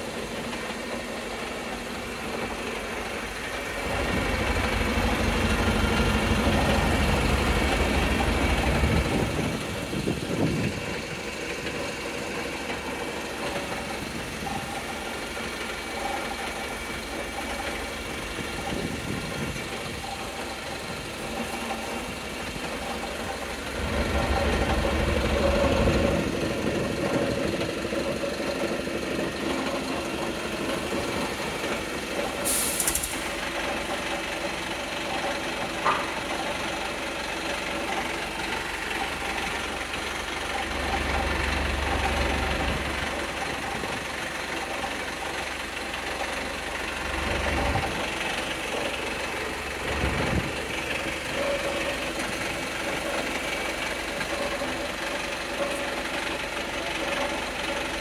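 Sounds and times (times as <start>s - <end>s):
deep engine rumble: 0.0s - 58.0s
diesel bus engine idling: 0.0s - 58.0s
knocking from engine: 2.3s - 58.0s.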